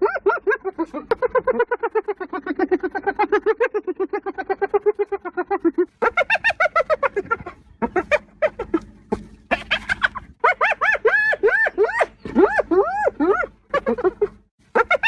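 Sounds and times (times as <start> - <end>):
hyena giggling: 0.0 - 15.0.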